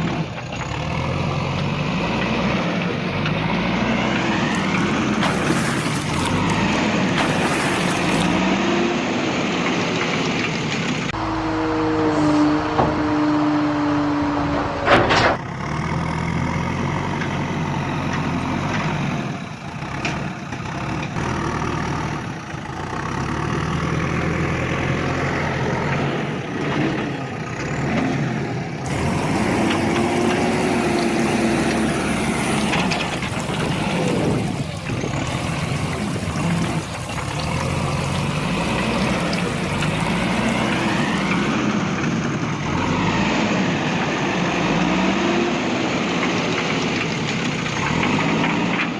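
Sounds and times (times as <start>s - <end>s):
diesel engines idling and revving: 0.0s - 48.9s.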